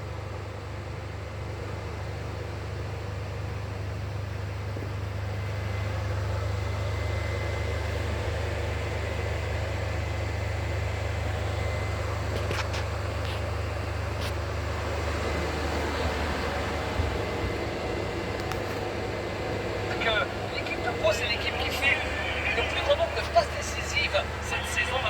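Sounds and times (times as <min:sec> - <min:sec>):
low mechanical hum: 0:00.0 - 0:25.0
faint high whine: 0:02.0 - 0:25.0.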